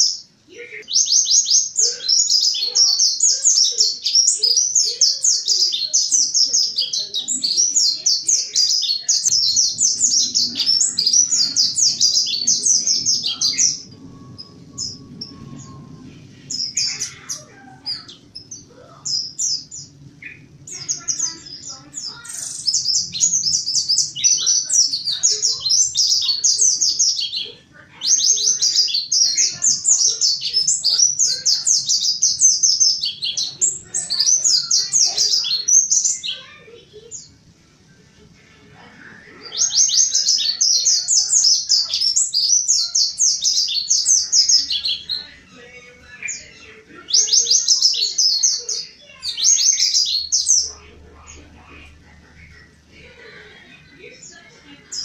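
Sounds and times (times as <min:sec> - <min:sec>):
bird twittering song: 0:00.0 - 0:37.4, 0:39.5 - 0:51.6.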